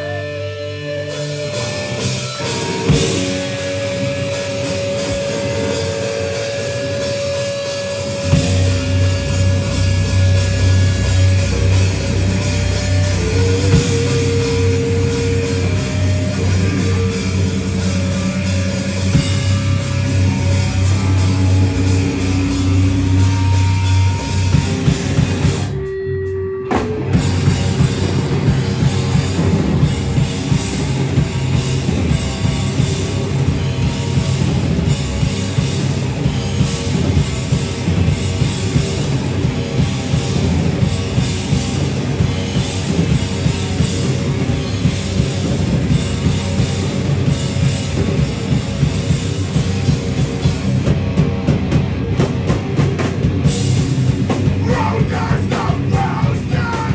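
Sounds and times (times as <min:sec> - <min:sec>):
distorted electric guitars: 0:00.0 - 0:56.9
fast drumming: 0:01.1 - 0:25.8, 0:26.7 - 0:56.9.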